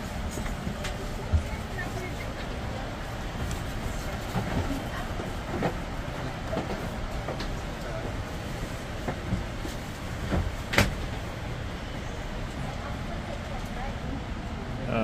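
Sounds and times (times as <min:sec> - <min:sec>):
rush of cabin air: 0:00.0 - 0:15.0.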